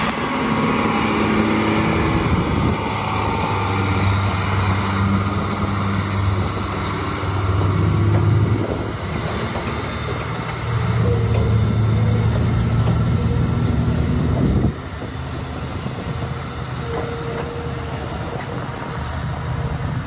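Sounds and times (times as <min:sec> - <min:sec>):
truck diesel engine under load: 0:00.0 - 0:20.0.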